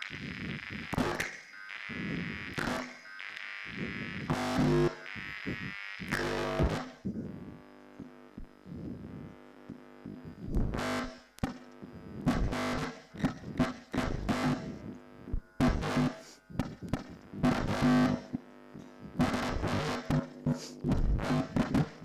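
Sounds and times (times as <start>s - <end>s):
distorted buzzing noise bursts: 0.0s - 22.0s
quiet electronic hum: 0.0s - 22.0s.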